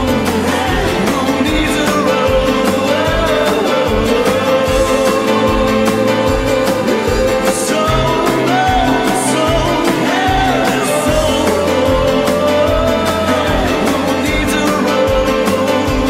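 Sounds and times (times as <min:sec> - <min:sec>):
song with beat and bass: 0:00.0 - 0:16.0.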